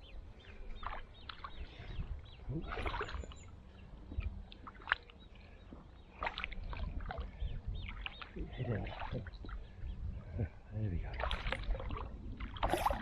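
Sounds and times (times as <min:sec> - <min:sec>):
small birds chirping: 0:00.0 - 0:13.0
water sloshing and splashing: 0:00.0 - 0:13.0.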